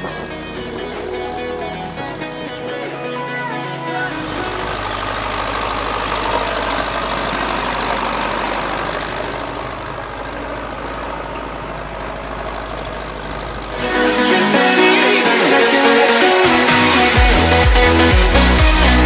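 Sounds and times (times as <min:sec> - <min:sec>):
tractor diesel engine humming: 0:00.0 - 0:19.0.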